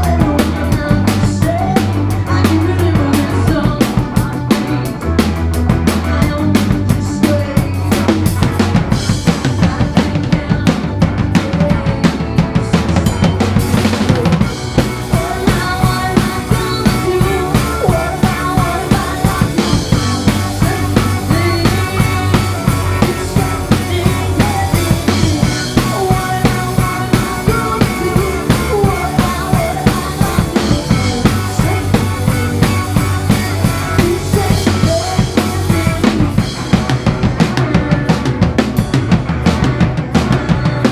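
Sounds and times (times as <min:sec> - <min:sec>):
drum kit beat: 0:00.0 - 0:40.9
live band playing: 0:00.0 - 0:40.9.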